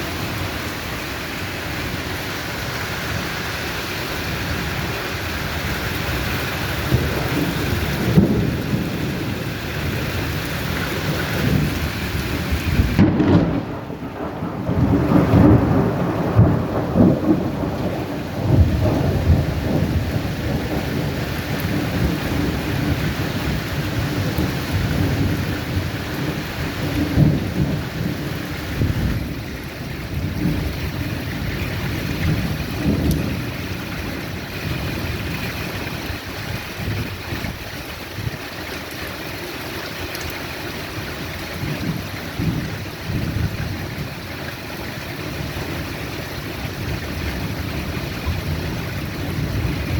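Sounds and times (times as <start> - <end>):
steady rain: 0.0 - 49.9
rolling thunder: 1.8 - 38.5, 45.4 - 49.9.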